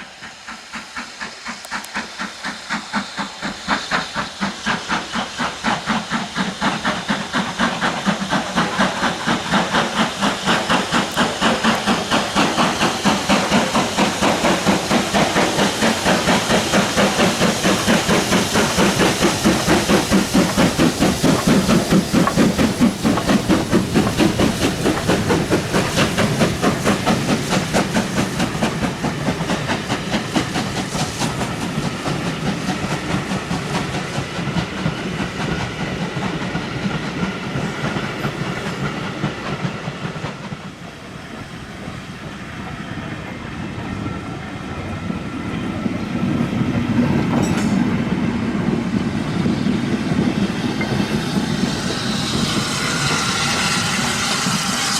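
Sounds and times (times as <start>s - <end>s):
steam train clattering past: 0.0s - 54.9s.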